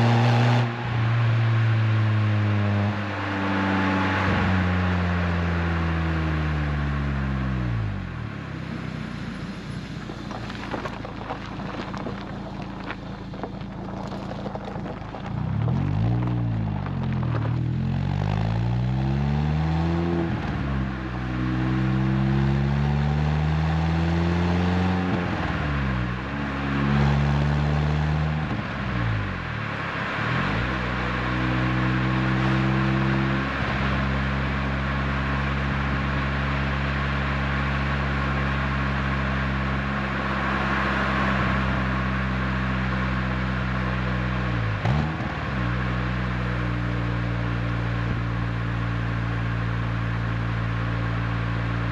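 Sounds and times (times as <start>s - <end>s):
car engine through exhaust: 0.0s - 51.9s
road noise: 0.0s - 51.9s.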